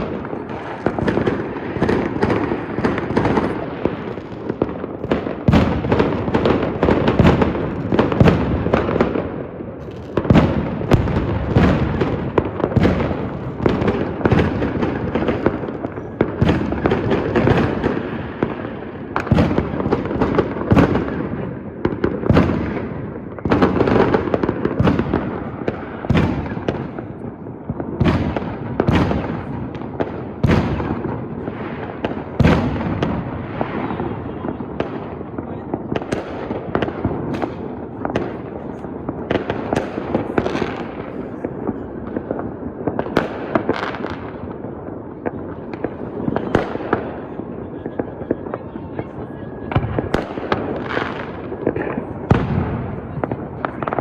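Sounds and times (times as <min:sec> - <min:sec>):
fireworks rumble and crackle: 0:00.0 - 0:54.0.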